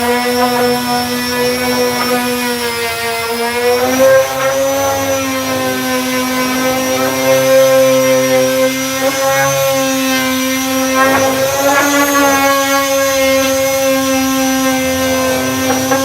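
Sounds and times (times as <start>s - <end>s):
disc sander motor whine: 0.0s - 16.0s.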